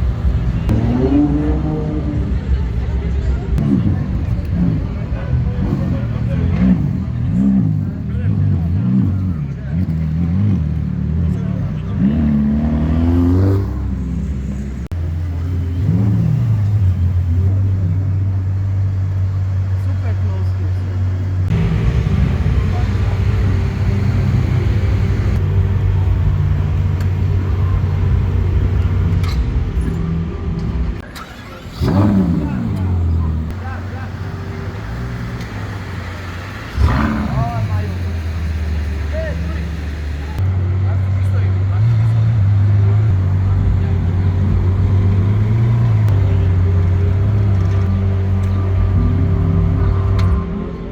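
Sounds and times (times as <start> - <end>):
car engine deep rumble: 0.0 - 50.9.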